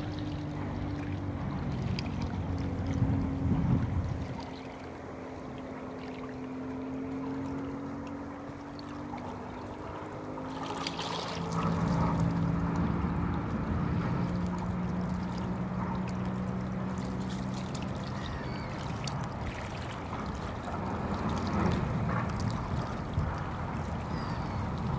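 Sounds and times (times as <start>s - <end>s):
low engine drone: 0.0s - 24.9s
water lapping at rocky shore: 0.0s - 24.9s.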